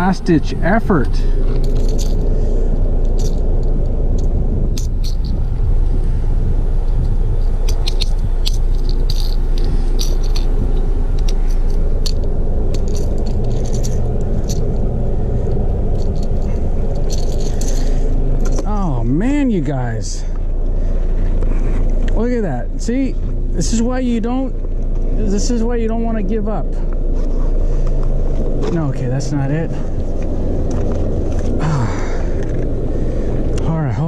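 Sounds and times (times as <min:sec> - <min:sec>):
metallic clicks and jingles: 0:00.0 - 0:06.0, 0:06.6 - 0:33.7
steady low rumble: 0:00.0 - 0:34.0.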